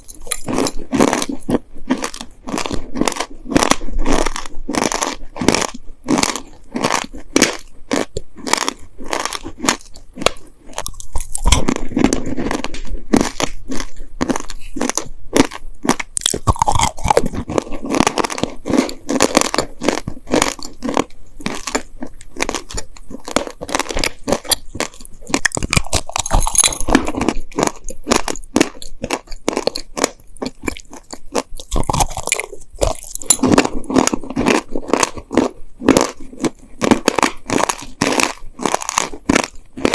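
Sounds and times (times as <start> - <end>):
chewing crunchy clay: 0.0 - 39.9.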